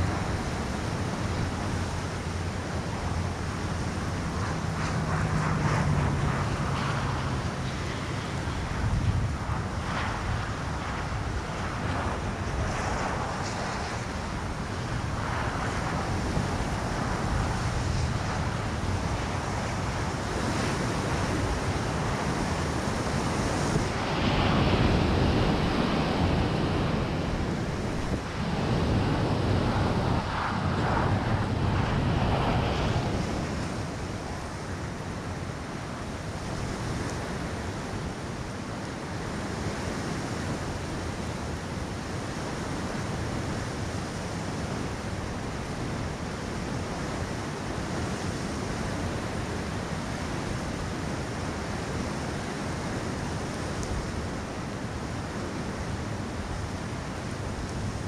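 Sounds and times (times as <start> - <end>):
wind gusting over microphone: 0.0 - 58.0.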